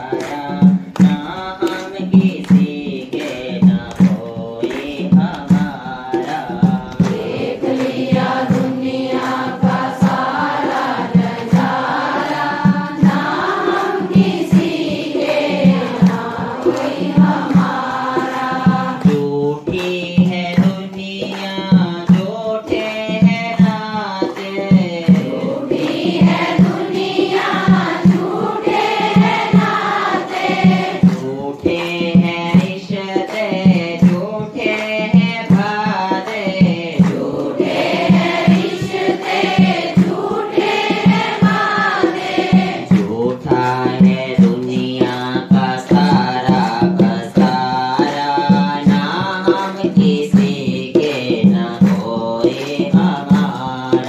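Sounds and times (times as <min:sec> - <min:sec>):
devotional singing with music: 0:00.0 - 0:54.0
steady percussion beat: 0:00.0 - 0:54.0.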